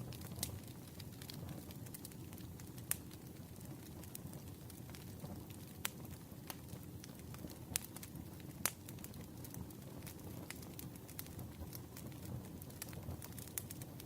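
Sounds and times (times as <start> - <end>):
campfire flames rumbling: 0.0 - 14.0
wood crackling and popping: 0.0 - 14.0.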